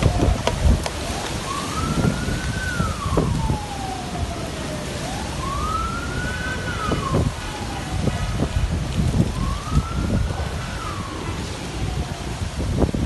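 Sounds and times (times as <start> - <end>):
siren wailing: 0.0 - 12.9
storm wind rushing: 0.0 - 13.0.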